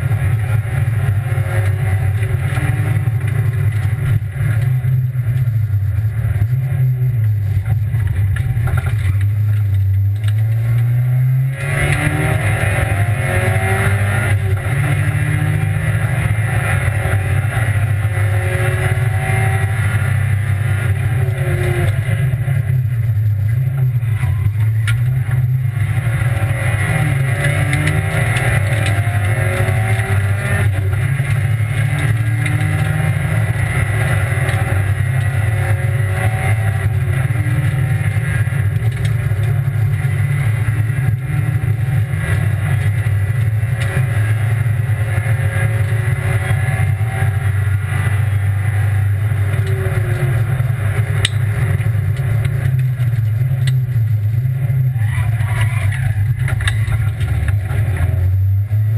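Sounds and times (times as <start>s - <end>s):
car engine revving through gears: 0.0s - 58.9s.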